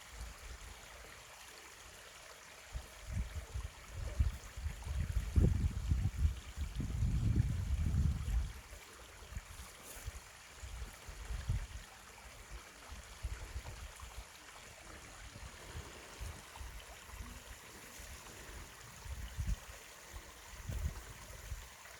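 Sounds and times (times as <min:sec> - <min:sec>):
stream rushing over rocks: 0:00.0 - 0:21.9.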